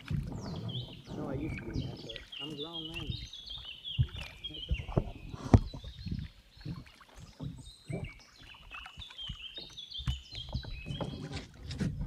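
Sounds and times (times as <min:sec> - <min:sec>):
canoe paddle knocks and water: 0:00.0 - 0:12.0
songbird singing: 0:00.0 - 0:12.0.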